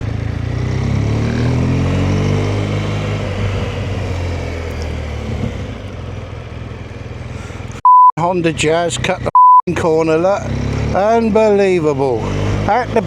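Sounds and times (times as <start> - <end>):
motorcycle engine revving: 0.0 - 7.8, 8.4 - 13.0.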